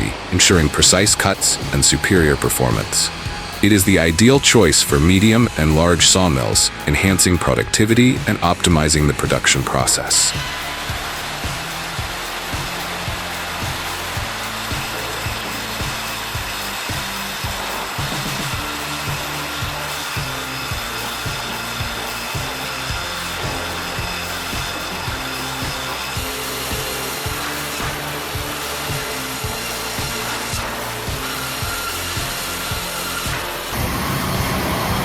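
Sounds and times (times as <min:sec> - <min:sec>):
background music with beat: 0:00.0 - 0:35.0
power saw cutting wood: 0:00.0 - 0:35.0.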